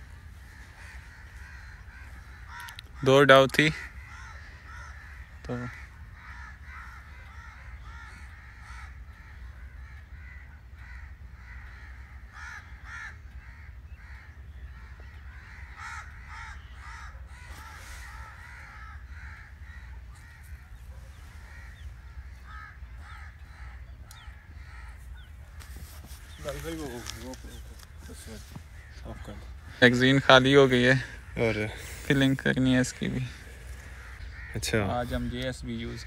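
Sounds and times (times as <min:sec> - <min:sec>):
birds calling: 0:00.0 - 0:36.0.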